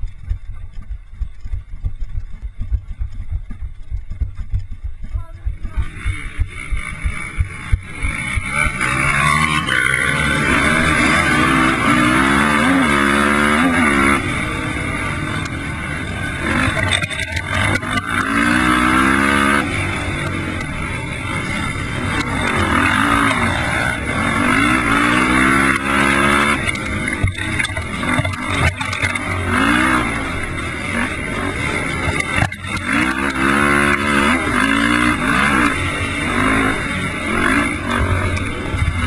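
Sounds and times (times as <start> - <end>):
quad engine revving hard: 5.2 - 39.0.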